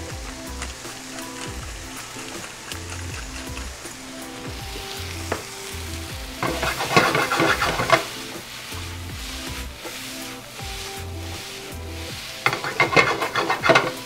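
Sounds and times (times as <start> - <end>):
pan scraping: 0.0 - 14.0
soft background music: 0.0 - 14.0
vegetables sizzling in skillet: 0.0 - 14.0.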